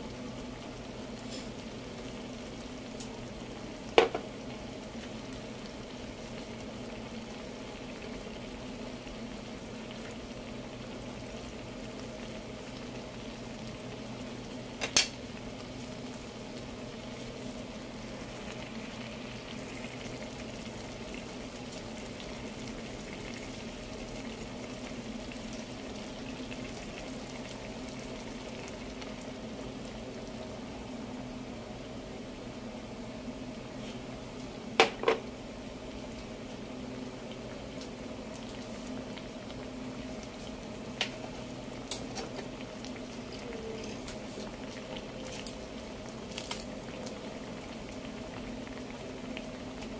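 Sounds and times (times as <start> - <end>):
faint steady hum: 0.0 - 49.9
food bubbling and sizzling: 0.0 - 49.9.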